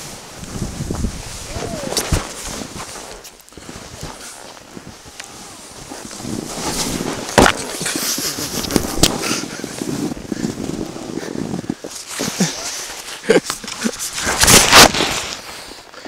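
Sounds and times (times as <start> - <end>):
skis scraping over snow: 0.0 - 16.0.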